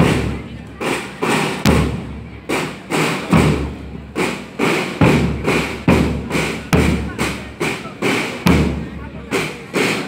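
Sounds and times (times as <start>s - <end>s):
bass drum strokes: 0.0s - 9.4s
marching drums cadence: 0.0s - 10.0s.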